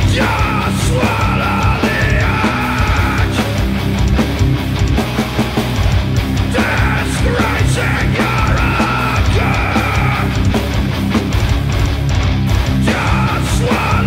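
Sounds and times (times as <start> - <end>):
doom metal band playing: 0.0 - 14.0.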